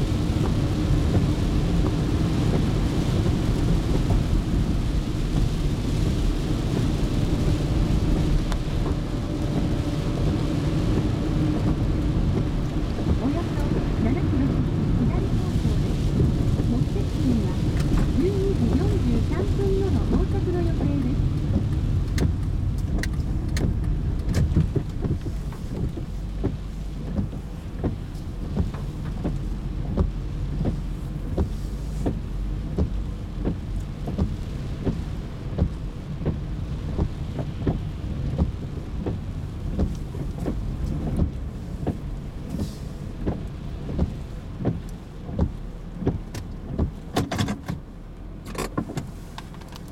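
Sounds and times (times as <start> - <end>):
engine and tyre rumble: 0.0 - 49.9
rain tapping on car roof: 0.0 - 49.9.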